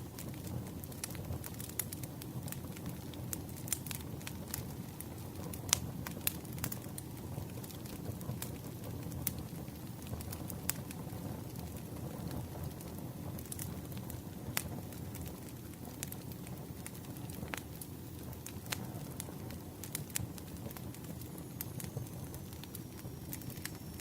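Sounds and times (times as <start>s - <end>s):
burning wood crackling and popping: 0.0s - 24.0s
campfire flames rumbling: 0.0s - 24.0s.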